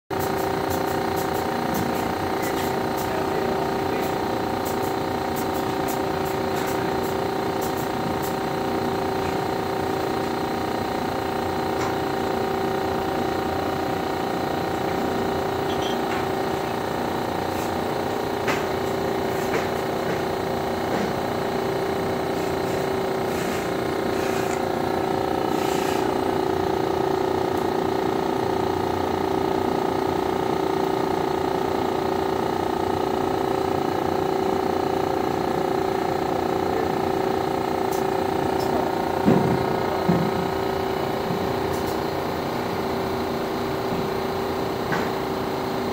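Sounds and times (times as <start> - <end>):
fan machine hum: 0.1 - 45.9.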